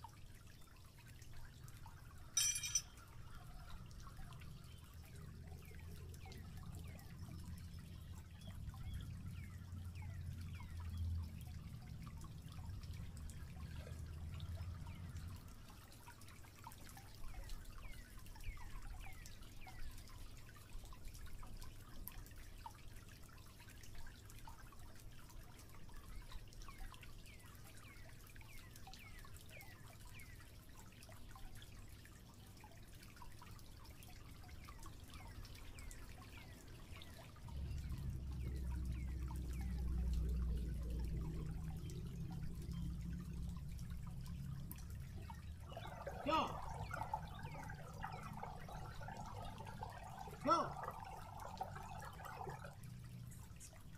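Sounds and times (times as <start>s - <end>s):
stream trickling over rocks: 0.0s - 53.9s.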